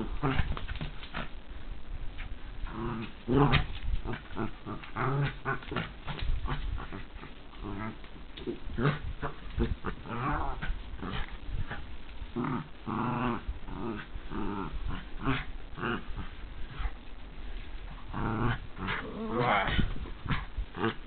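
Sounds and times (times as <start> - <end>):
dog play growling: 0.0 - 1.4, 2.0 - 21.0.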